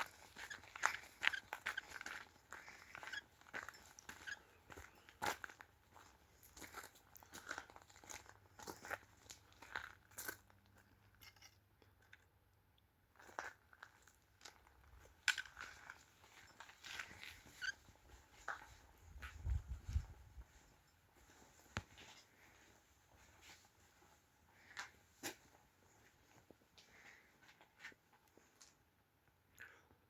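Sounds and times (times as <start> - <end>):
footsteps crunching on trail: 0.0 - 10.5, 13.2 - 28.7.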